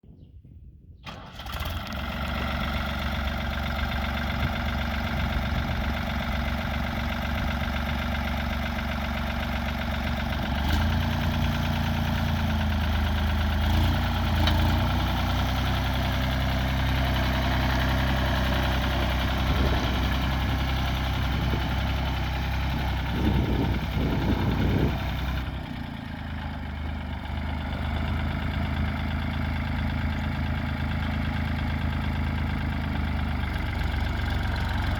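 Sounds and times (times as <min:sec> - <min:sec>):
tractor diesel engine running: 0:01.0 - 0:34.9.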